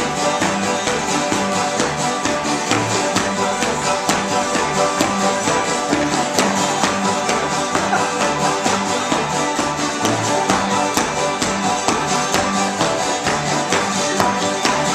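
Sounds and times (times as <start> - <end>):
acoustic guitars strumming: 0.0 - 14.9
feet tapping on wooden floor: 1.8 - 14.9.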